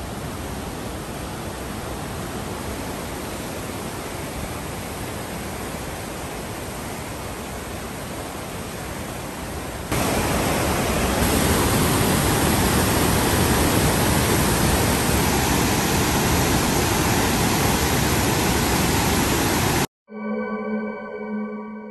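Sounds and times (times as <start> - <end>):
white water rushing over spillway: 0.0 - 19.9.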